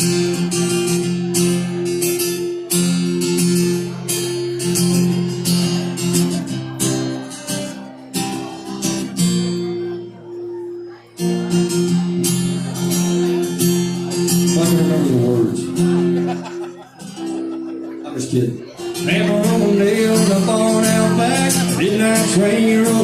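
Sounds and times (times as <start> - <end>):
acoustic guitar strumming: 0.0 - 23.0
guitar chord ringing: 0.0 - 23.0.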